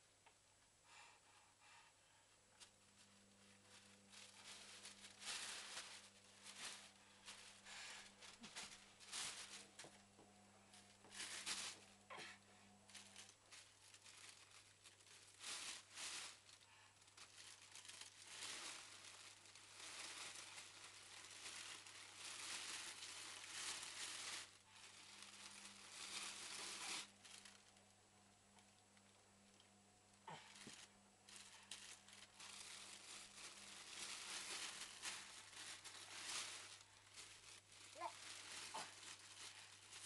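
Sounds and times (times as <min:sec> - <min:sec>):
plastic bag crinkling: 0:02.6 - 0:27.9, 0:28.5 - 0:40.0.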